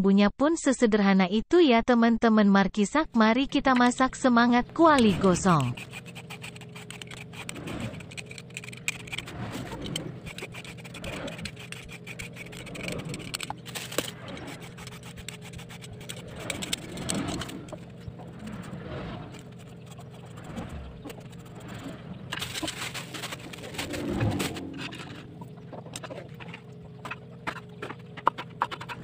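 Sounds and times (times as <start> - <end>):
steady low hum: 3.0 - 29.0
vegetable peeler scraping eggplant: 3.6 - 25.2, 26.4 - 29.0.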